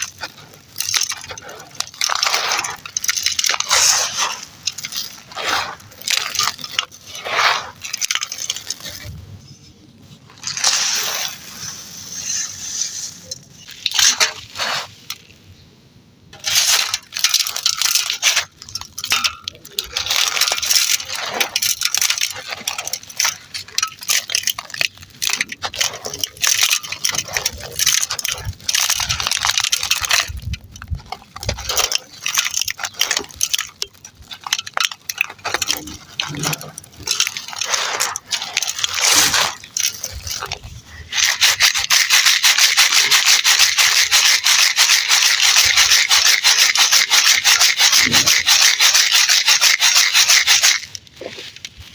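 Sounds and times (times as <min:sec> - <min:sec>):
gritty material crunching: 0:00.0 - 0:15.6, 0:16.3 - 0:51.9.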